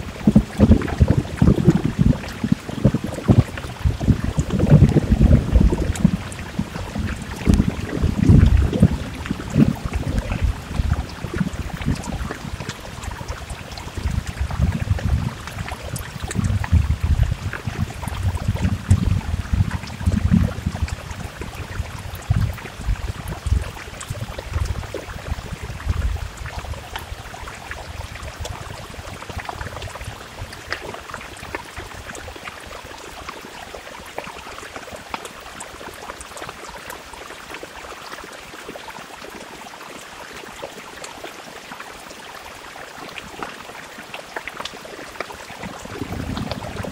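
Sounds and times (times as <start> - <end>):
heavy rain on window: 0.0 - 46.9.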